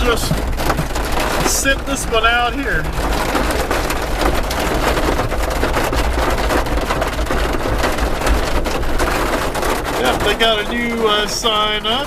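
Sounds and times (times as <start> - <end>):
heavy rain on vehicle roof: 0.0 - 12.0
low steady rumble: 0.0 - 12.0.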